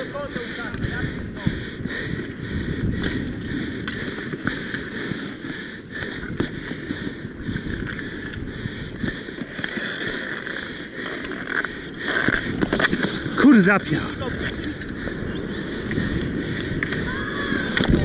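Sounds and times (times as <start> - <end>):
skate wheels rumbling: 0.0 - 18.0
wind buffeting microphone: 0.0 - 18.0.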